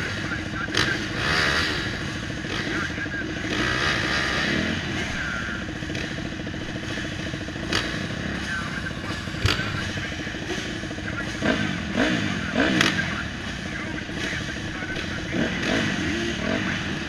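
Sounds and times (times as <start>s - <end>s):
motorbike engines idling: 0.0s - 17.0s.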